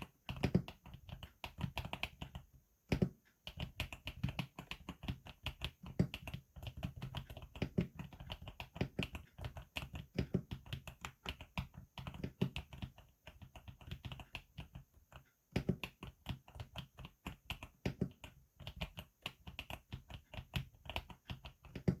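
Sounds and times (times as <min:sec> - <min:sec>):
mechanical keyboard typing: 0:00.0 - 0:22.0.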